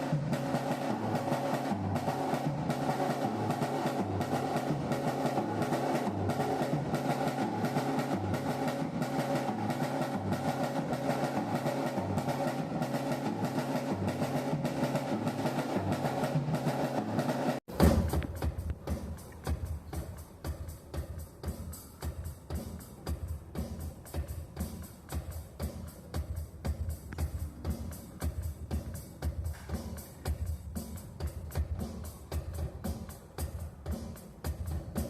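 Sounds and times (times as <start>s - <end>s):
bass drum beat: 0.0s - 35.0s
drum kit groove: 0.0s - 35.0s.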